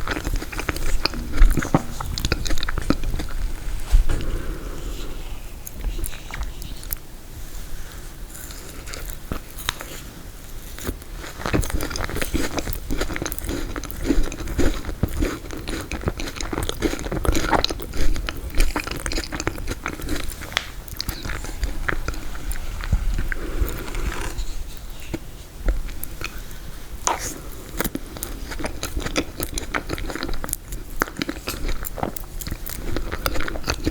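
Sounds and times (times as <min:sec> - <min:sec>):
biting and chewing frozen cake: 0:00.0 - 0:33.9.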